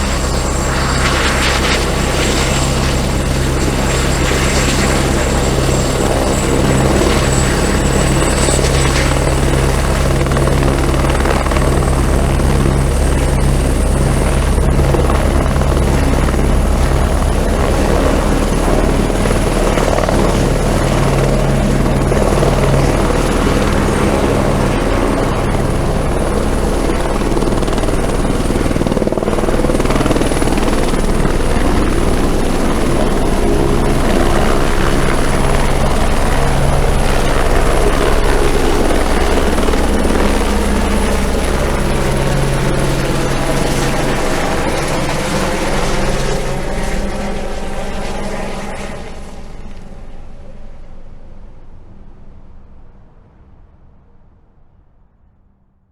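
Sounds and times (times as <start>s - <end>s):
helicopter running: 0.0s - 53.5s.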